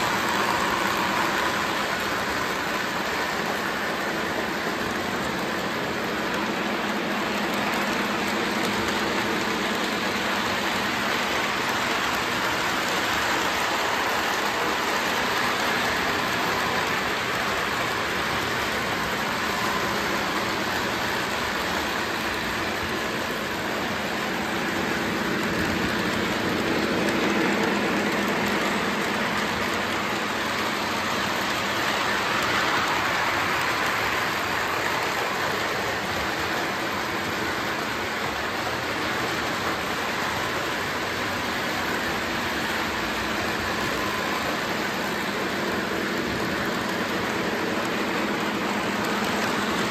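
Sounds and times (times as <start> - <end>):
model trains whirring: 0.0 - 49.9.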